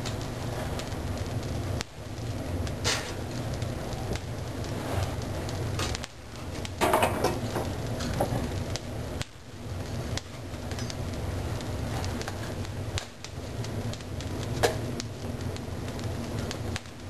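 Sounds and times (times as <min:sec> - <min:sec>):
sharp pops of fire: 0:00.0 - 0:17.0
wood fire crackling: 0:00.0 - 0:17.0.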